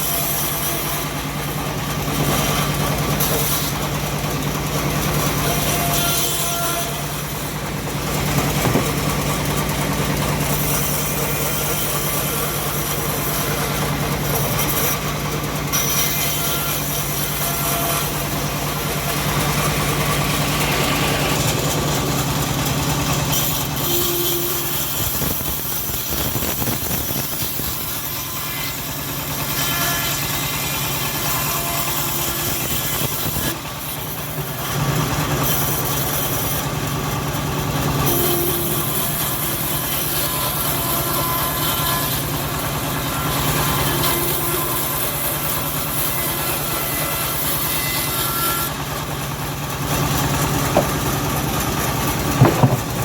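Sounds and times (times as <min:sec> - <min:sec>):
bandsaw sawing log: 0:00.0 - 0:53.0.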